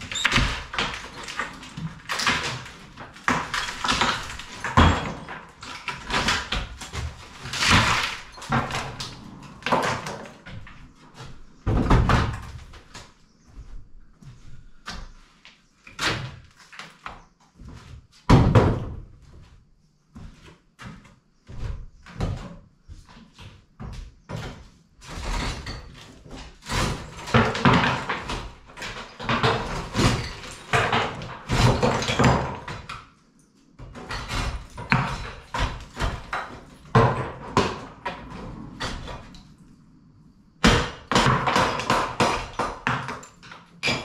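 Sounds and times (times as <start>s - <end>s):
demolition knocks and clatter: 0.0s - 13.7s, 15.9s - 19.2s, 20.8s - 39.7s, 40.5s - 44.0s.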